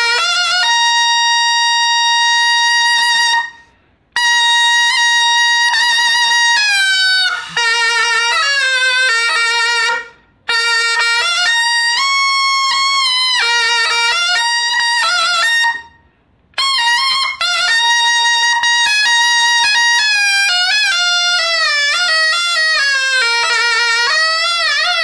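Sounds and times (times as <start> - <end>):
double-reed shawm melody: 0.0 - 25.0.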